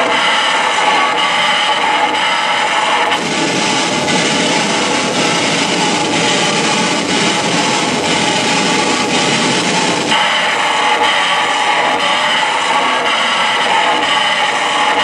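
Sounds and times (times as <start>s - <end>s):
harsh grinding electronic noise: 0.0s - 15.0s.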